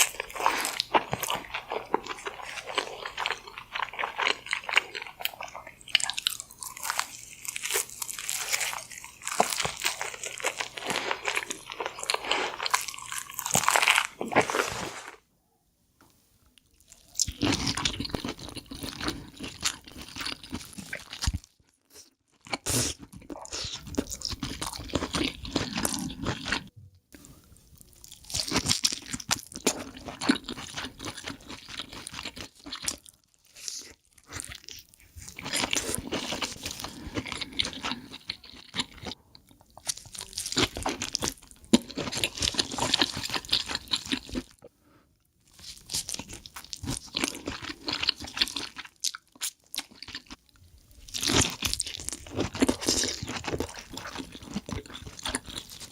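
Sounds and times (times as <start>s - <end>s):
crab crunching and chewing: 0.0s - 15.1s, 16.7s - 26.7s, 27.9s - 44.7s, 45.4s - 55.9s.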